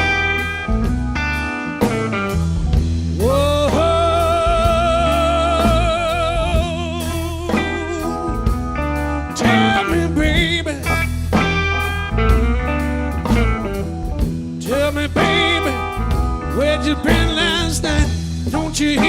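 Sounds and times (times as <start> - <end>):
blues-rock band playing: 0.0 - 19.0
lead guitar line with vibrato: 0.0 - 19.0.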